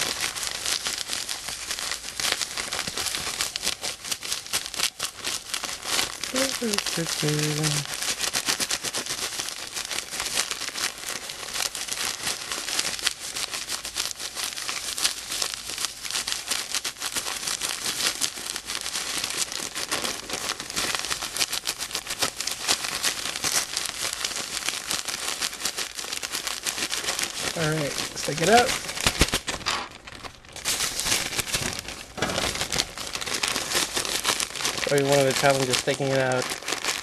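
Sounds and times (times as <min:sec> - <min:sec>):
salt grains rattling in a bag: 0:00.0 - 0:37.0.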